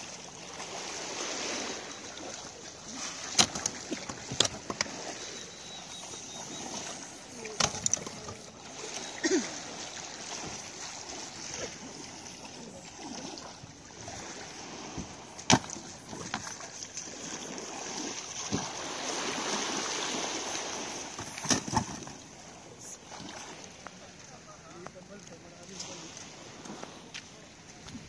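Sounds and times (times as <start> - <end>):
sea water splashing: 0.0 - 28.0.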